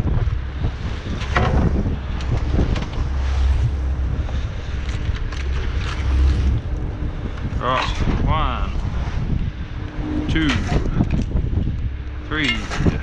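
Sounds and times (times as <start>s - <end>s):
boat engine droning: 0.0s - 13.0s
wind buffeting microphone: 0.0s - 13.0s.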